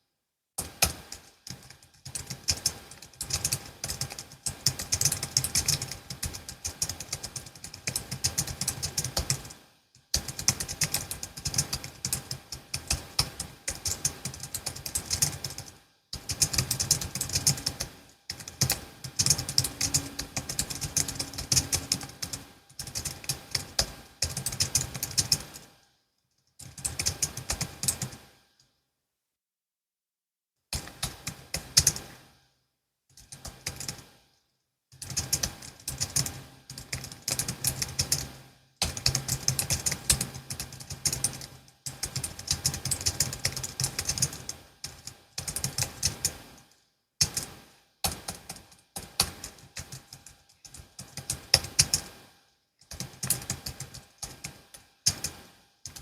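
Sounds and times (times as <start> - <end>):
fast keyboard typing: 0.6 - 25.7, 26.6 - 28.2, 30.8 - 32.2, 33.2 - 34.1, 35.0 - 46.6, 47.2 - 52.2, 52.8 - 56.0.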